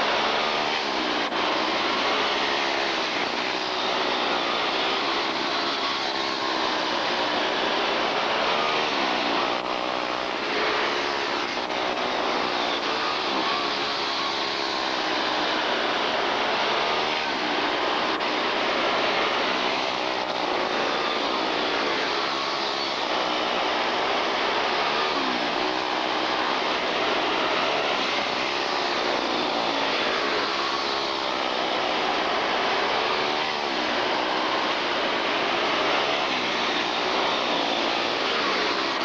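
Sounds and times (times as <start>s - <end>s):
small race car engines whining: 0.0s - 39.0s.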